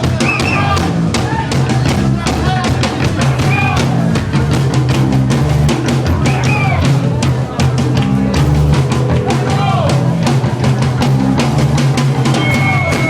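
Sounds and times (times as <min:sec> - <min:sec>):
drum hits: 0:00.0 - 0:13.0
live rock band playing: 0:00.0 - 0:13.0.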